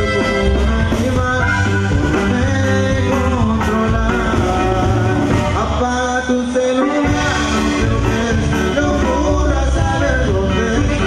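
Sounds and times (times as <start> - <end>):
live band with accordion: 0.0 - 11.0
person singing: 0.0 - 11.0.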